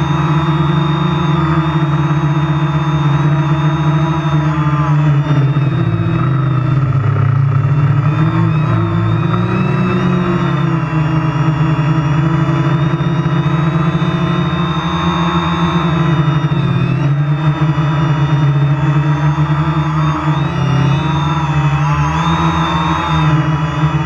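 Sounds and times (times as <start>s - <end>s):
drone propellers buzzing: 0.0s - 24.0s.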